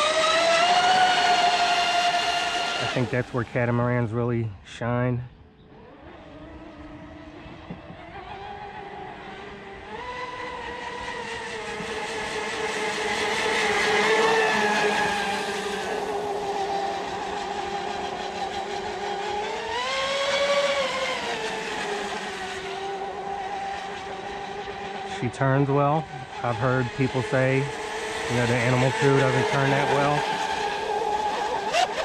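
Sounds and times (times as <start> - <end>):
electric boat motor whining: 0.0 - 4.2, 5.7 - 32.0.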